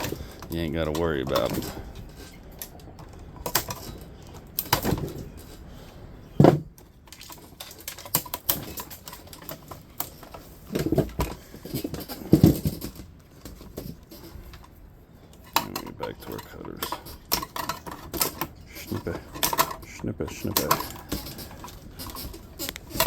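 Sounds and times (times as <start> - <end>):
metal parts clicking and clattering: 0.0 - 23.0
rattling: 0.0 - 23.0.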